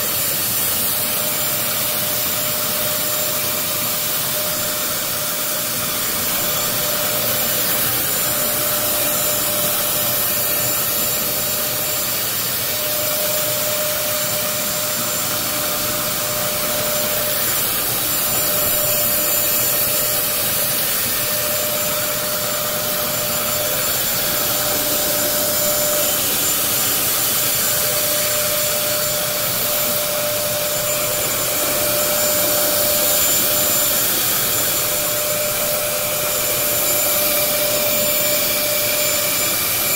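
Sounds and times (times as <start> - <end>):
floor cleaner suction motor: 0.0 - 39.9.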